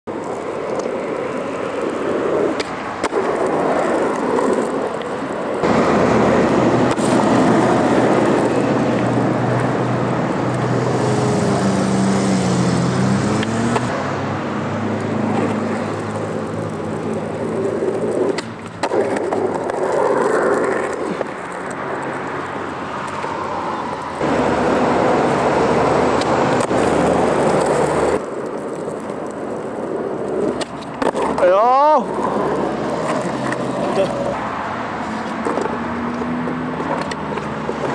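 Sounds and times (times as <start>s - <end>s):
skateboard wheels rolling on asphalt: 0.0s - 37.9s.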